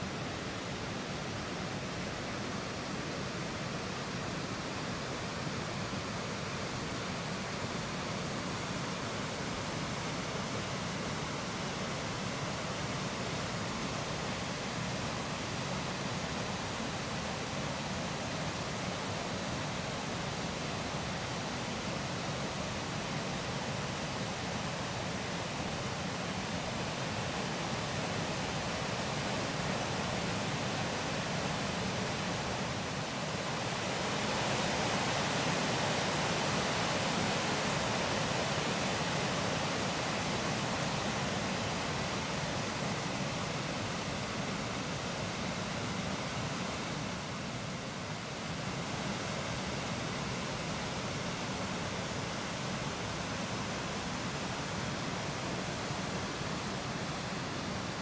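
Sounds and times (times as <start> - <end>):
waterfall and river rapids rushing: 0.0 - 58.0.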